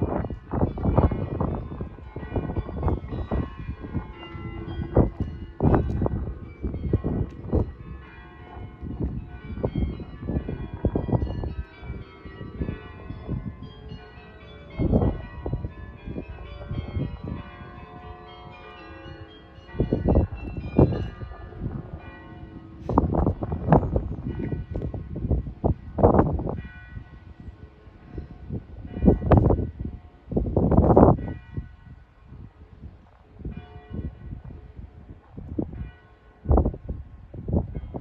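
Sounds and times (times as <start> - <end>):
church bells ringing: 0.0 - 38.0
wind rumbling on microphone: 0.0 - 38.0.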